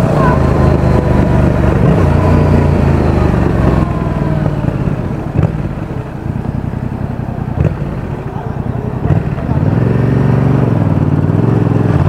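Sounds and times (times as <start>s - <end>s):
motorcycle engine and exhaust: 0.0s - 12.0s.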